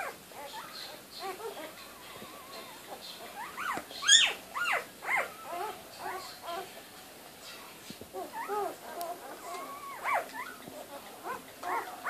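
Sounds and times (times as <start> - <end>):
puppies squeaking: 0.0 - 6.7, 8.1 - 12.0.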